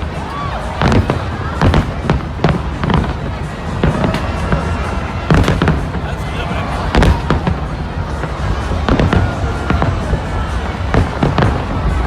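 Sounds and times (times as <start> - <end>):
crowd noise: 0.0 - 12.0
fireworks bursting: 0.0 - 12.0.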